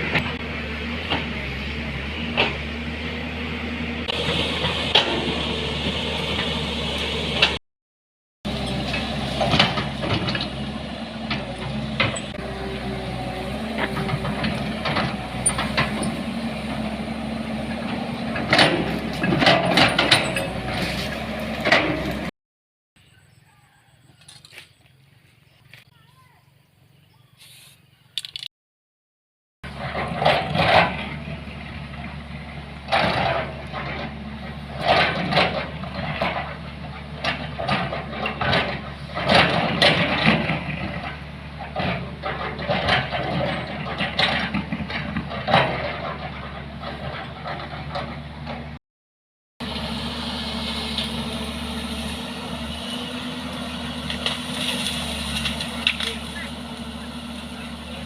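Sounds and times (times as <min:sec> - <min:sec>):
vehicle engine running: 0:00.0 - 0:07.6, 0:08.5 - 0:22.3, 0:29.6 - 0:48.8, 0:49.6 - 0:58.0.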